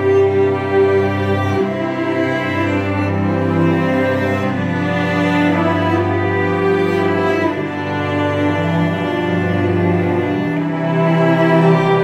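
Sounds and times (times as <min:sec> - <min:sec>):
cellos bowing sustained chord: 0:00.0 - 0:12.0.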